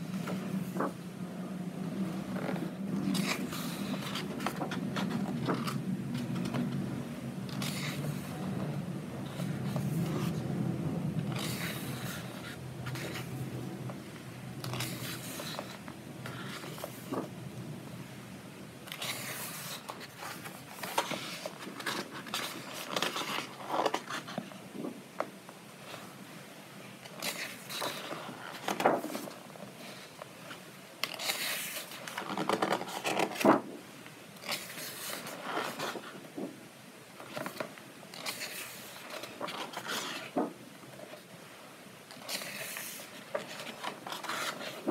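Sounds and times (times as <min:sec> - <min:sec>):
book pages turning: 0:00.1 - 0:01.0, 0:02.0 - 0:10.5, 0:11.1 - 0:17.3, 0:18.8 - 0:26.0, 0:27.0 - 0:33.7, 0:34.4 - 0:36.5, 0:37.2 - 0:41.3, 0:42.1 - 0:44.9.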